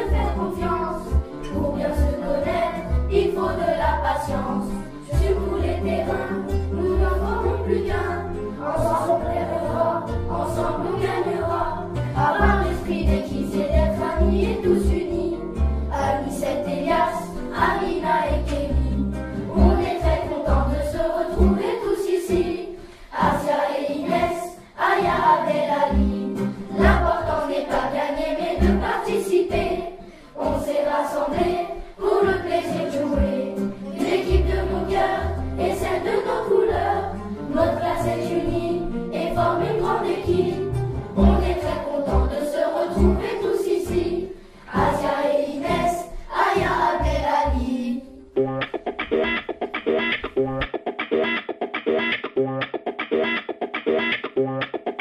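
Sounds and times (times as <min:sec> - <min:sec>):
group of voices singing: 0:00.0 - 0:48.2.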